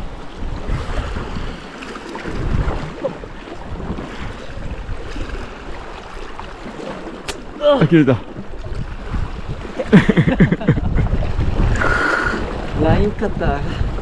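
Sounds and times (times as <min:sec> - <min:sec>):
sea waves washing against rocks: 0:00.0 - 0:14.0
wind rumbling on microphone: 0:00.0 - 0:14.0.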